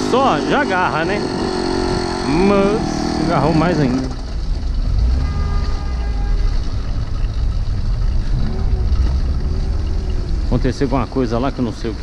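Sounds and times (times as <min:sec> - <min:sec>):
small engine running: 0:00.0 - 0:12.0
wind and road noise rumble: 0:00.0 - 0:12.0.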